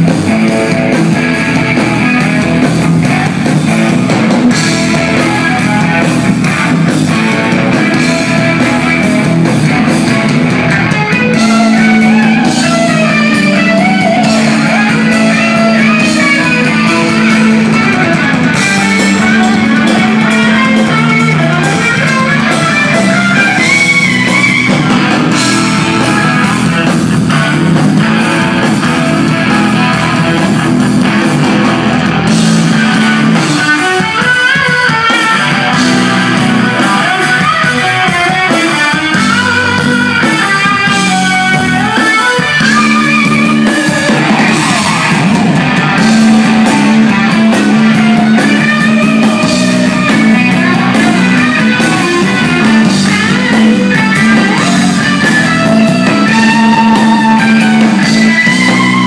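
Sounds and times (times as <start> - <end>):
bass guitar: 0.0 - 59.0
drum kit: 0.0 - 59.0
electric guitar lead lines: 0.0 - 59.0.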